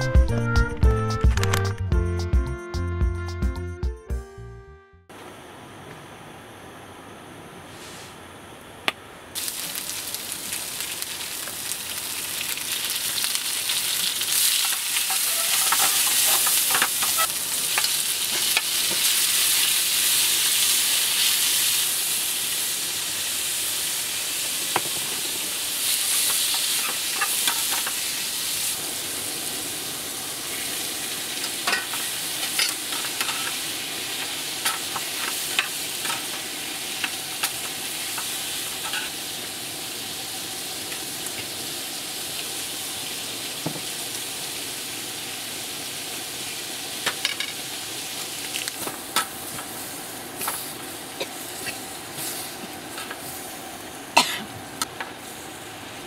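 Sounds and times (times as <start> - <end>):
food sizzling in hot oil: 9.4 - 54.1, 54.7 - 56.0.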